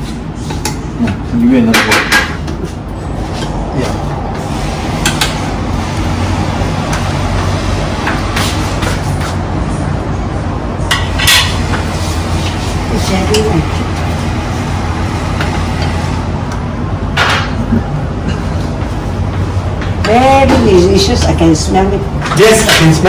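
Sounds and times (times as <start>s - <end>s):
low kitchen hum: 0.0s - 23.0s.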